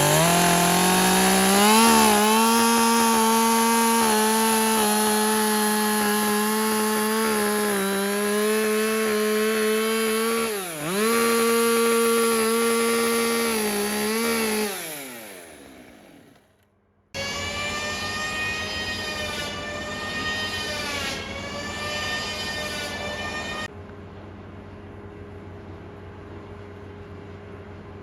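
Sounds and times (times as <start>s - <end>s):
chainsaw cutting wood: 0.0s - 23.7s.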